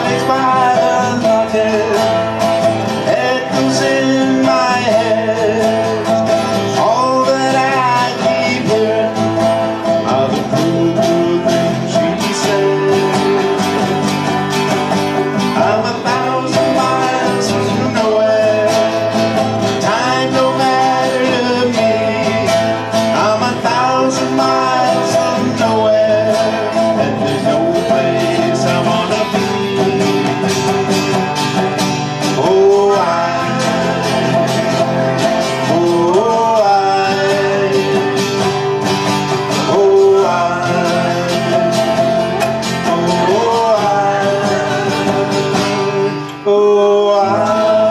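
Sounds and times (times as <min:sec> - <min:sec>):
strummed acoustic guitar: 0:00.0 - 0:47.9.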